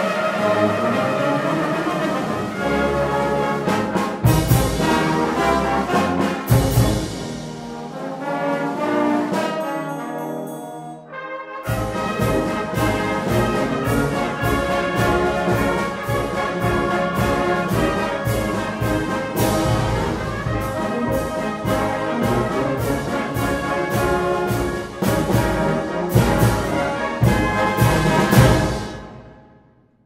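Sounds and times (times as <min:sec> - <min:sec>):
brass band music: 0:00.0 - 0:29.5.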